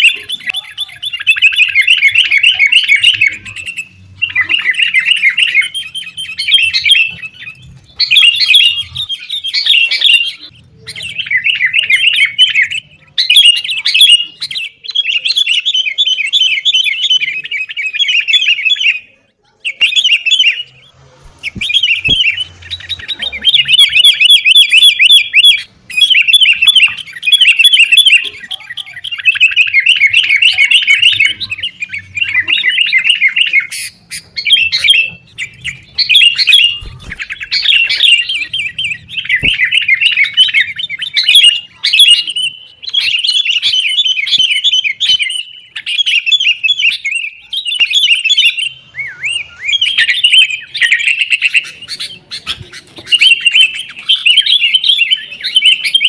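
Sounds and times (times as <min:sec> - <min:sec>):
birds chattering in trills: 0:00.0 - 0:56.0.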